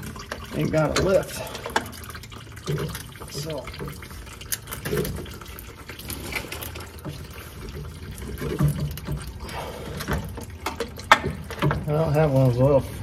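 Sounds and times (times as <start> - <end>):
oil trickling into a drain pan: 0.0 - 13.0.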